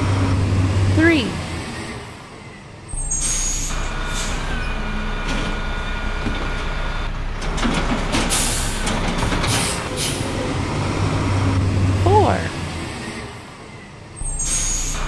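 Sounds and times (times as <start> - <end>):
garbage truck engine running: 0.0 - 15.0.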